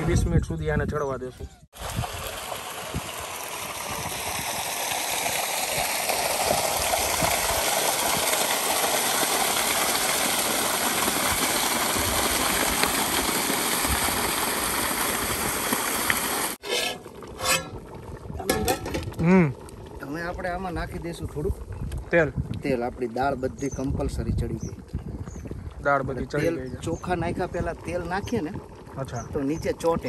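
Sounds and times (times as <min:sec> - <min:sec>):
water gushing from pipe into tank: 0:01.8 - 0:30.0.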